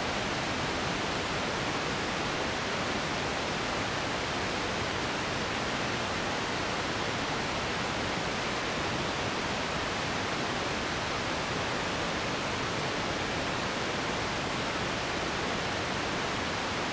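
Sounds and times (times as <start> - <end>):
steady broadband hiss: 0.0 - 16.9.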